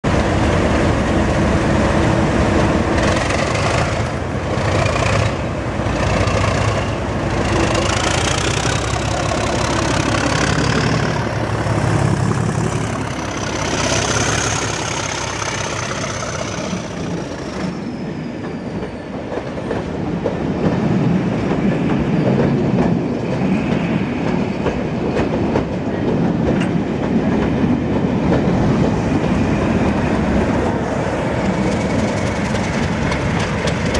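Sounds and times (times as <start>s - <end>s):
diesel locomotives accelerating: 0.0s - 33.9s
train rumbling past: 0.0s - 33.9s.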